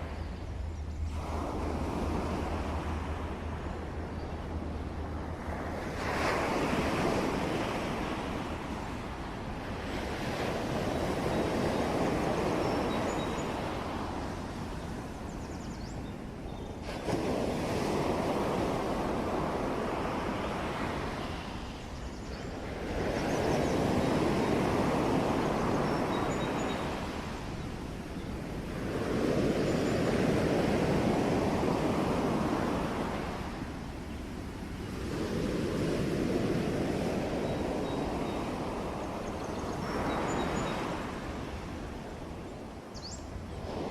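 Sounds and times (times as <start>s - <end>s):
ocean waves washing in: 0.0s - 43.9s.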